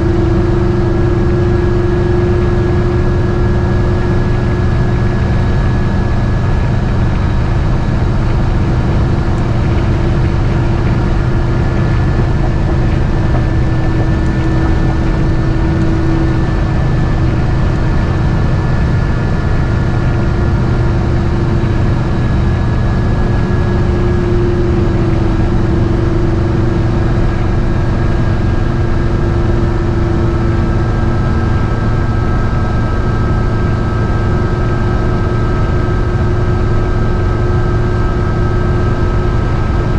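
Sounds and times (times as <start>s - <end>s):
engine drone inside cab: 0.0s - 39.9s
road noise: 0.0s - 39.9s.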